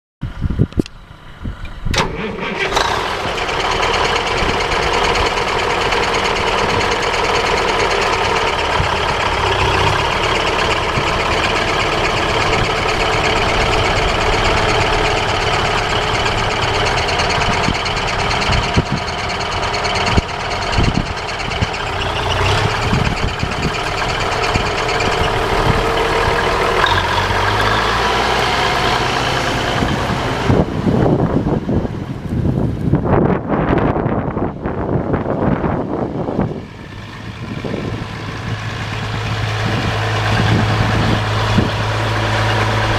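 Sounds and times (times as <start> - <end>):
tractor diesel engine running: 0.2 - 42.9.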